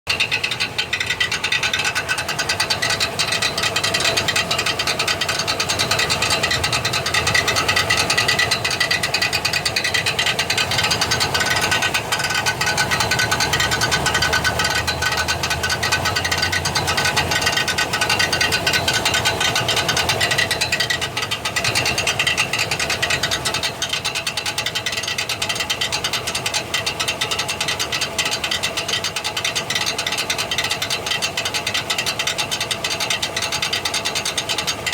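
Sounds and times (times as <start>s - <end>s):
starter motor metallic clatter: 0.1s - 34.9s.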